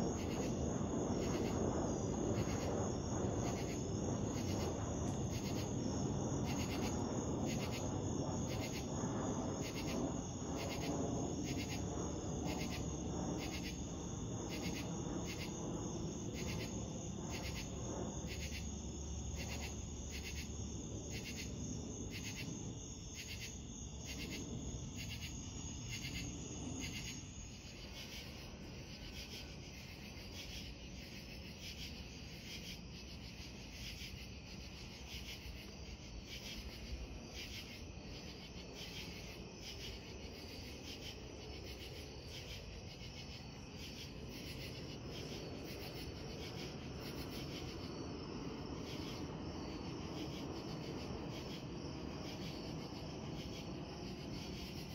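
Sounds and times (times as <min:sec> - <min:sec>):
insects chirping: 0:00.0 - 0:54.9
jet engines rumbling overhead: 0:00.0 - 0:54.9.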